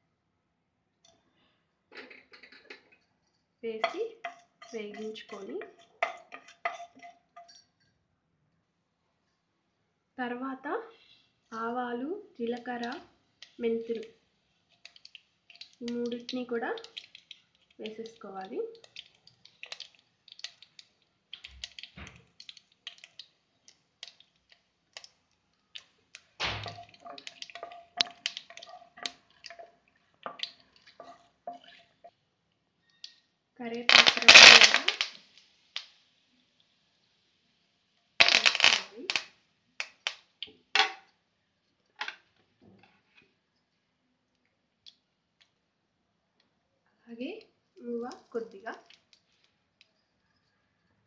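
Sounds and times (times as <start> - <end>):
seeds crackling in hot oil: 3.6 - 7.8, 10.8 - 46.5, 47.1 - 50.7.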